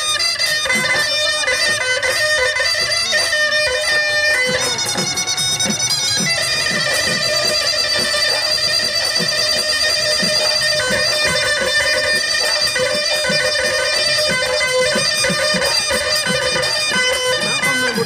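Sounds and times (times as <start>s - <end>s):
reedy wind instrument melody: 0.0s - 18.0s
steady drum beat: 0.0s - 18.0s.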